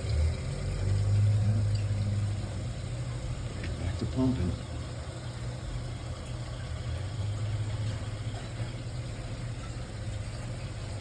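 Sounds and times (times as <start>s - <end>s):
circulator pump humming: 0.0s - 11.0s.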